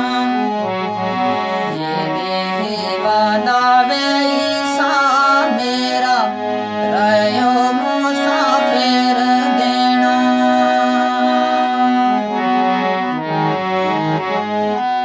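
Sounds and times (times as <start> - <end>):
ornamented bending melody: 0.0 - 15.0
steady held drone: 0.0 - 15.0.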